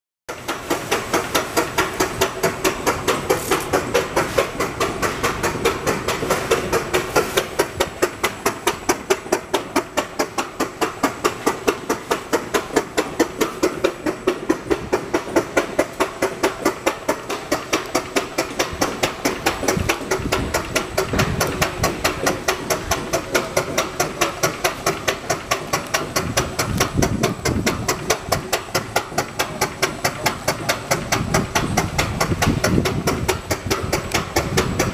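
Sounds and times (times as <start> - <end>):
machine running with rhythmic knock: 0.3 - 34.9.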